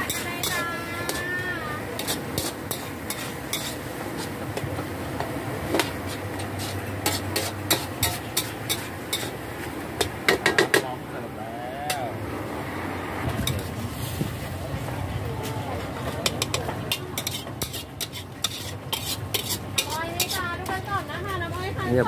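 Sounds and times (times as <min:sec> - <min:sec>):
food sizzling: 0:00.0 - 0:10.9, 0:11.9 - 0:14.8, 0:16.0 - 0:22.0.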